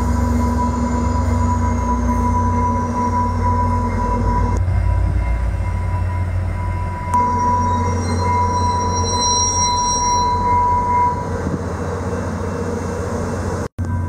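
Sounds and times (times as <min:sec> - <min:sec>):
diesel locomotive engine rumble: 0:00.0 - 0:14.0
train wheel squeals: 0:00.0 - 0:14.0.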